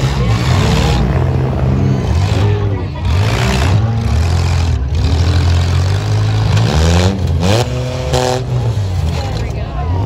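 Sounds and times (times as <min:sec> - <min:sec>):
engine revving: 0:00.0 - 0:09.5
car engines rumbling: 0:00.0 - 0:10.0.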